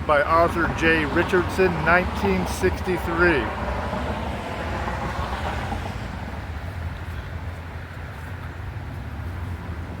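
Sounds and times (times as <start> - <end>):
car tyre noise passing: 0.0 - 10.0
road traffic rumble: 0.0 - 10.0.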